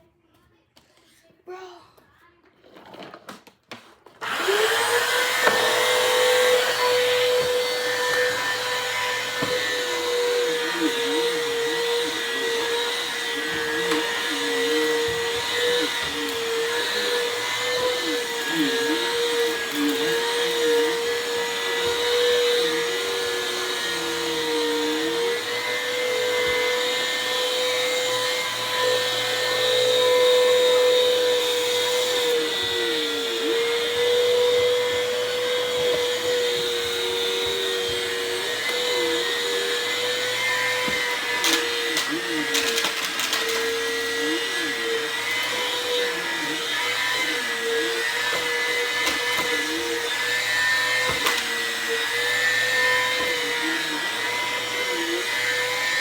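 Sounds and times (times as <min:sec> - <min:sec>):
vacuum cleaner whine: 0:03.8 - 0:56.0.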